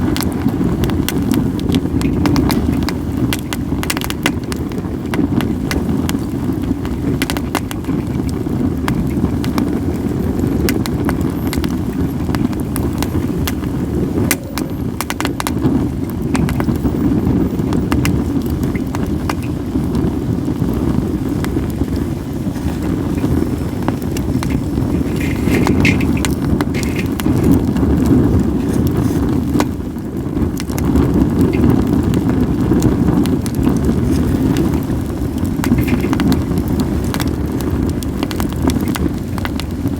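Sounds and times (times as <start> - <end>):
campfire crackling and popping: 0.0 - 39.9
wind on microphone: 0.0 - 39.9.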